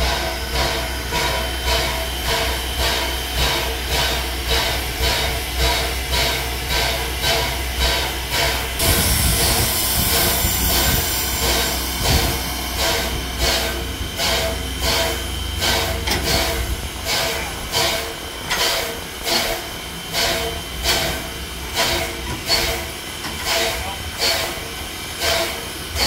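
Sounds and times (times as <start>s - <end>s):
locomotive working beat: 0.0s - 26.0s
steam locomotive hissing: 0.0s - 26.0s.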